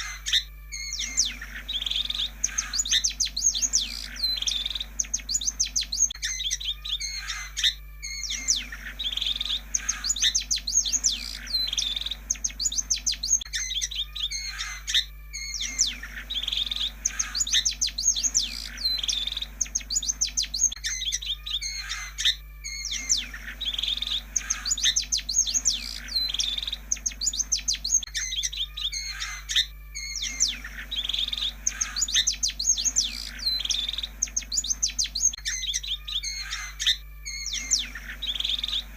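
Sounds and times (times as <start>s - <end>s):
bird singing chirps and whistles: 0.0s - 38.9s
steady low hum: 0.0s - 38.9s.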